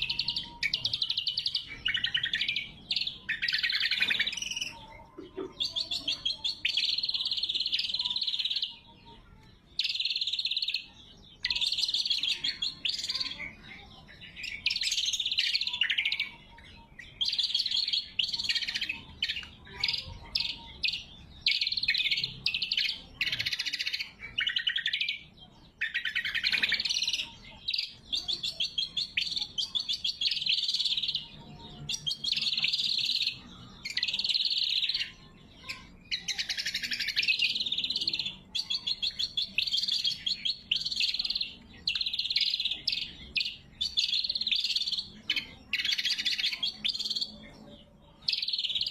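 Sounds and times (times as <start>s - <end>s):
bird chirps and rattling trills: 0.0s - 48.9s.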